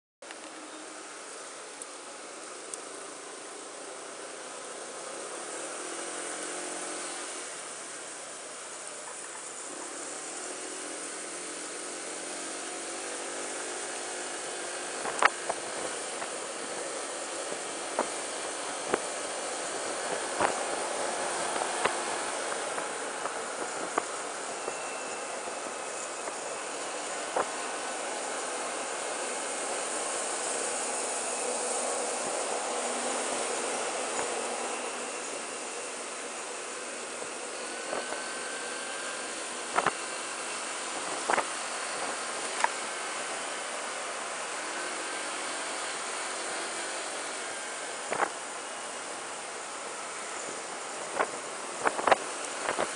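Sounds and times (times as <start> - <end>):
wind and road noise: 0.2 - 52.9.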